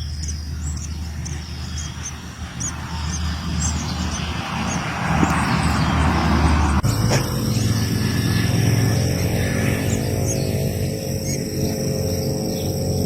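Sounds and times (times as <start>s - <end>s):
rushing noise: 0.0s - 11.7s
steady low hum: 0.0s - 13.0s.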